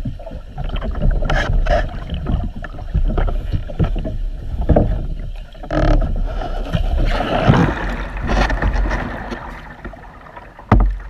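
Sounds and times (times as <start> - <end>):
paddle sweeping through water: 0.0 - 11.0
water churning and splashing: 0.0 - 11.0.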